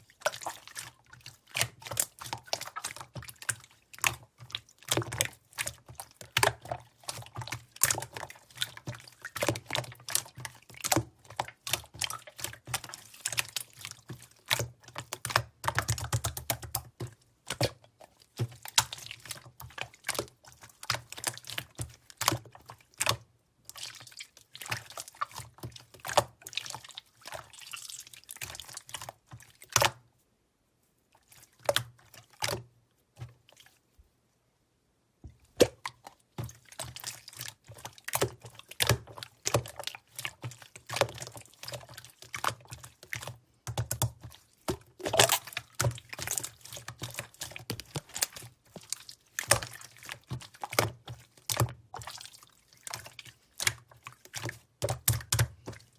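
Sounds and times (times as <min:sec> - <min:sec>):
hands squishing slime: 0:00.0 - 0:30.0, 0:35.4 - 0:55.9.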